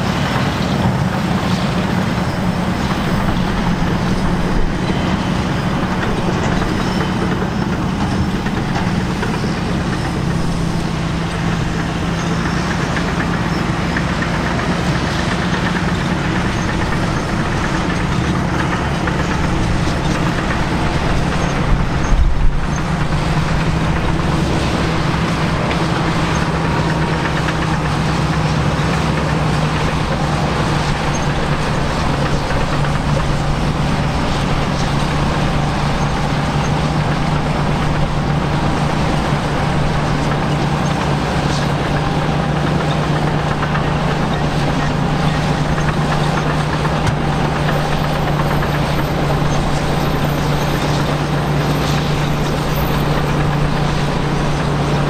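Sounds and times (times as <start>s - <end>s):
diesel bulldozer engines droning: 0.0s - 55.0s.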